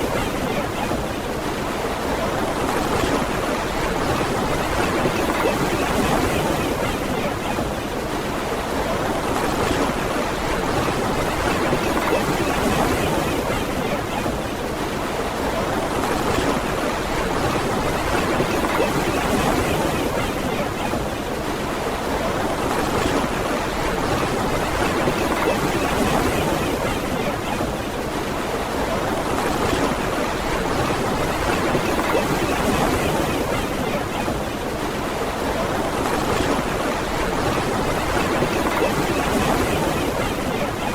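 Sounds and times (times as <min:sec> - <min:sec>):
ocean surf washing onto beach: 0:00.0 - 0:40.9.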